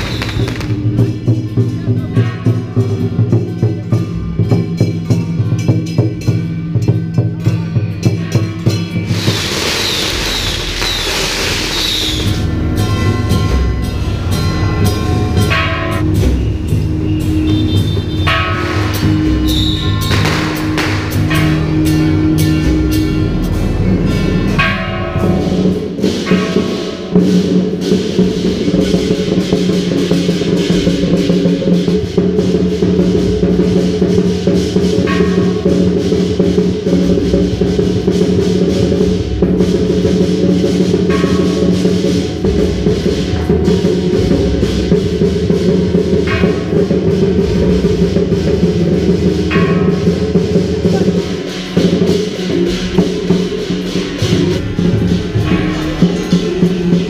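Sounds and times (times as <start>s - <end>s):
cymbals struck: 0.0s - 57.0s
drums: 0.0s - 57.0s
gongs: 0.0s - 57.0s.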